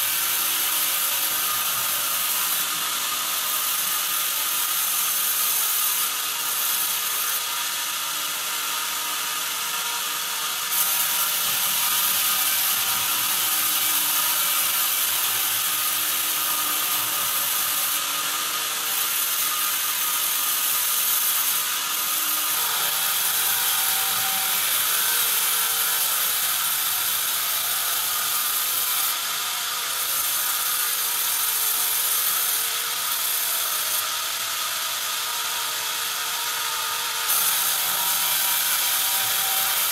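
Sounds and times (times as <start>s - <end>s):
band saw cutting timber: 0.0s - 39.9s.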